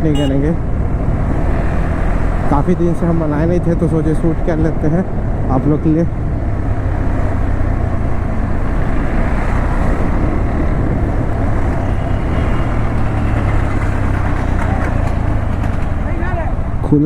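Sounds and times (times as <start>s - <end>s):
motorcycle engine hum: 0.0s - 17.0s
wind and road rush: 0.0s - 17.0s.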